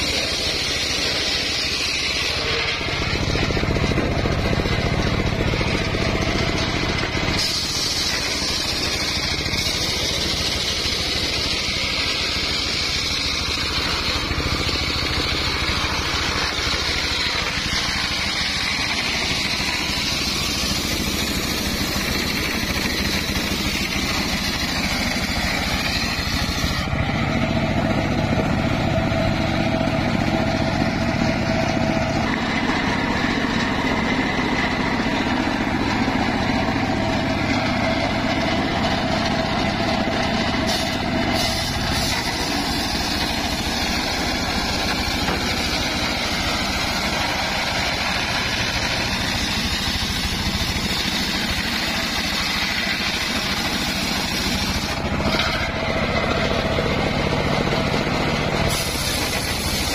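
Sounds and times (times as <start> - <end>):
circular saw ripping a log: 0.0 - 27.0, 32.0 - 56.8, 57.7 - 59.9.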